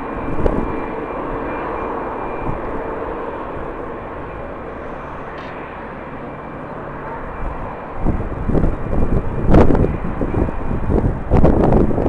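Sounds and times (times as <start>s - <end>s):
rumbling surge: 0.0s - 12.0s
wind buffeting microphone: 0.0s - 12.0s.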